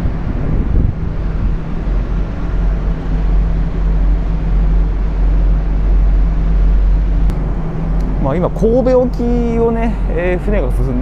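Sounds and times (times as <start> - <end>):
ferry engines droning: 0.0 - 11.0
water rushing: 0.0 - 11.0.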